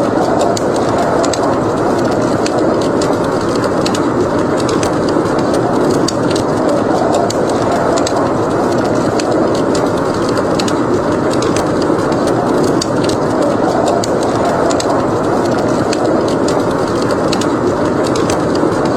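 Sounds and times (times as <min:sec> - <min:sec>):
snowstorm wind: 0:00.0 - 0:18.9
wood fire crackling: 0:00.0 - 0:18.9.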